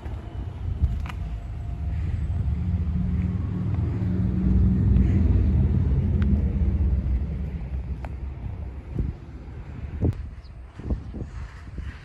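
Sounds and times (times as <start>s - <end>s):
railcar equipment rumbling: 0.0s - 12.0s.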